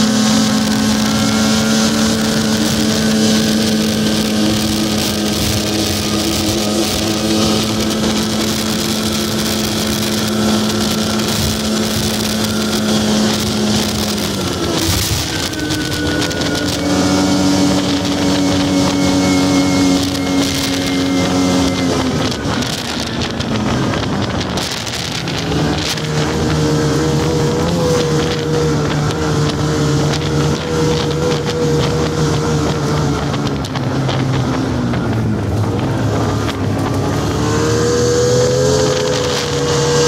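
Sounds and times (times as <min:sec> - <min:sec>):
snowmobile engine running: 0:00.0 - 0:40.0
wind buffeting microphone: 0:00.0 - 0:40.0.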